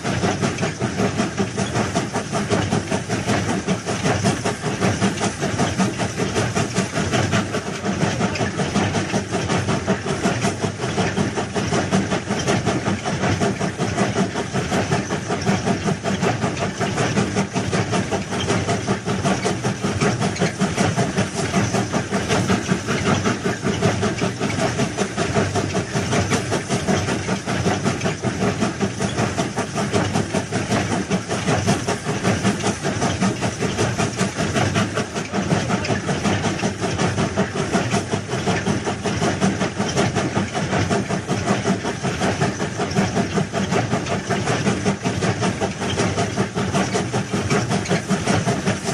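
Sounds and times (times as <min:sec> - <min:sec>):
rail vehicle rattling on track: 0:00.0 - 0:48.9.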